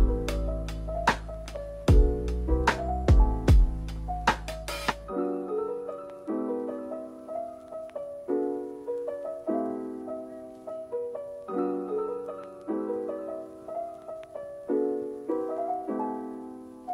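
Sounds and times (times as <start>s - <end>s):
soft piano chords: 0.0s - 16.9s.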